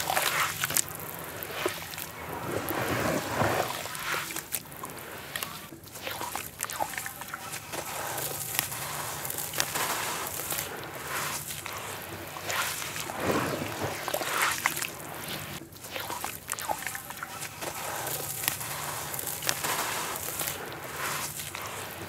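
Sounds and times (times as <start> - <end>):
hands squishing wet dirt in water: 0.0 - 22.0.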